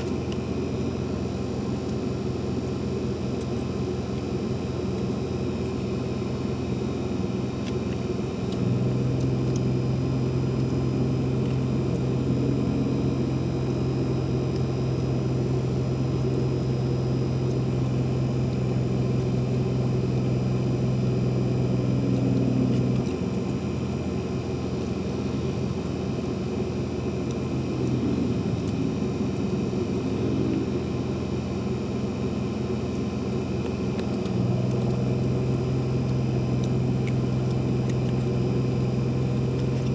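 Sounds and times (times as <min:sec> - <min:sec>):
low mechanical hum: 0:00.0 - 0:39.9.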